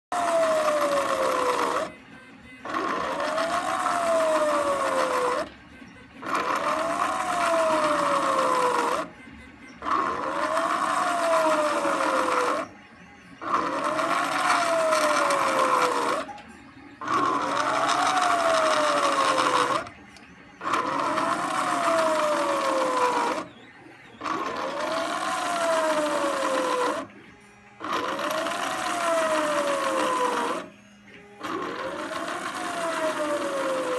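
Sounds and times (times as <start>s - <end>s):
stepper motor whine: 0.1s - 33.9s.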